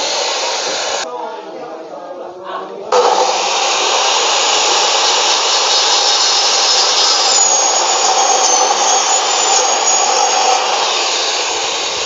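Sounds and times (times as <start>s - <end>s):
thin high whine: 0.0s - 1.0s, 2.9s - 12.0s.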